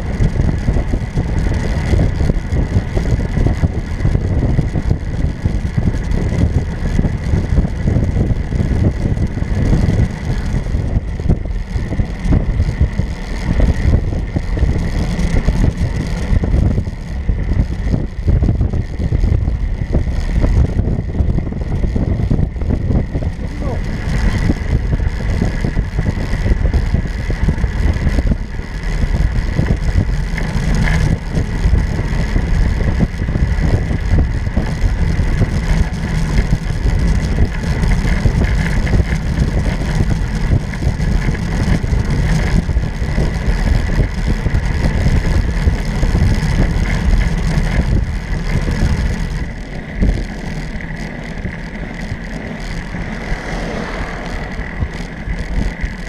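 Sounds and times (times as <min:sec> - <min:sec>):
road noise: 0:00.0 - 0:56.0
wind noise over microphone: 0:00.0 - 0:56.0.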